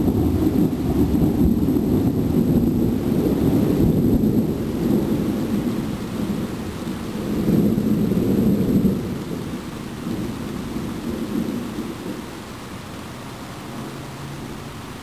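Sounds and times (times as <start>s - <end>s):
rolling thunder: 0.0s - 12.4s
rain hissing: 0.0s - 15.0s.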